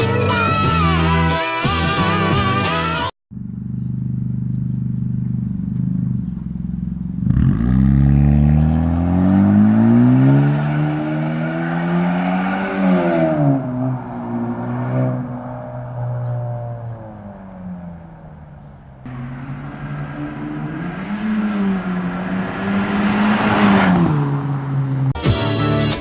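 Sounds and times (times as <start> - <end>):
car engine idling and revving: 1.9 - 25.2.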